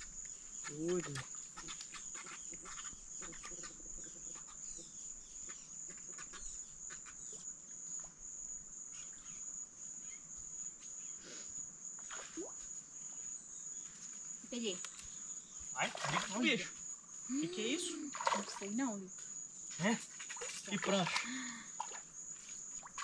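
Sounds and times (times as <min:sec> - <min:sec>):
insects trilling: 0:00.0 - 0:23.0
short insect calls: 0:00.0 - 0:23.0.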